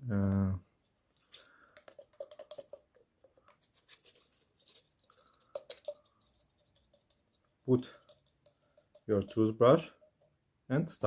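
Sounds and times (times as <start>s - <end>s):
bottle being handled: 1.1s - 10.4s.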